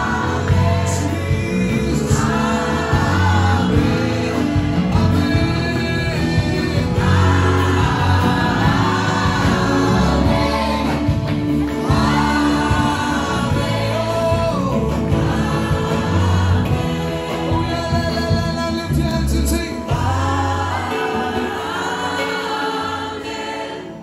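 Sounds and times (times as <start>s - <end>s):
band with keyboard: 0.0s - 24.0s
man and woman singing: 0.0s - 24.0s.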